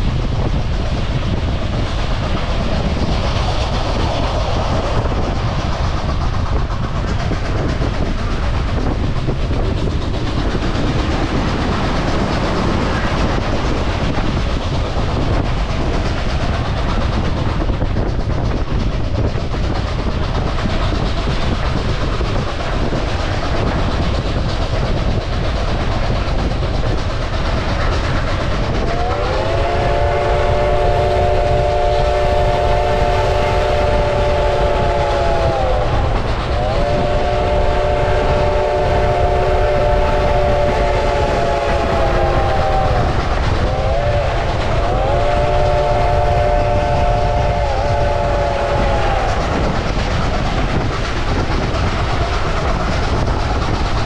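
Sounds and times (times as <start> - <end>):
steam train rumbling and clattering: 0.0 - 54.0.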